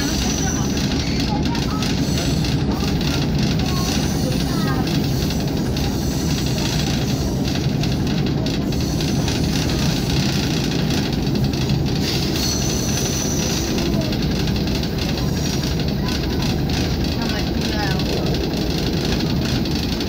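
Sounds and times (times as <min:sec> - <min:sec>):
diesel railcar rumbling on rails: 0:00.0 - 0:20.0.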